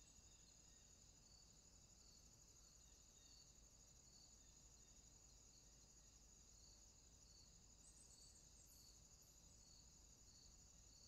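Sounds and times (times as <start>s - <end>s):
soft insect chirp: 0.0s - 11.0s.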